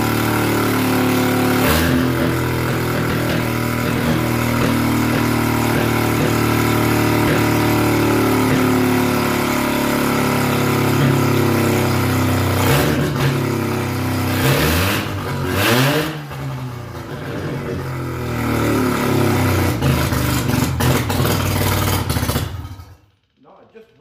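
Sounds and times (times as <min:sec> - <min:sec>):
rotary engine revving: 0:00.0 - 0:23.0.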